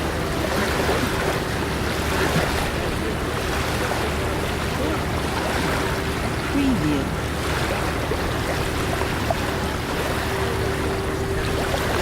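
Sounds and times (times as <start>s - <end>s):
surf washing: 0.0s - 12.0s
distant voices: 0.1s - 12.0s.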